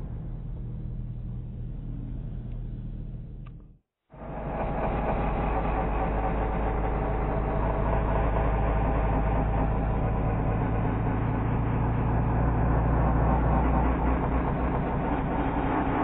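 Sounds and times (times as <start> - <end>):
slowed motorcycle engine drone: 0.0 - 16.0.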